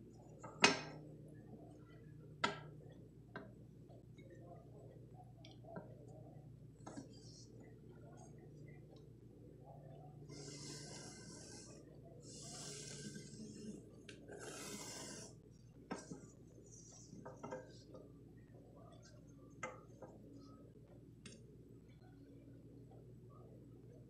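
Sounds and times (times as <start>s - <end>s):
soft scratchy hiss: 0.0s - 24.0s.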